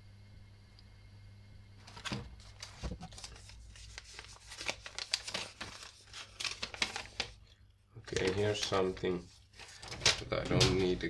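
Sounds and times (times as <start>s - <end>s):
packaging crinkling and rustling: 1.8s - 11.0s.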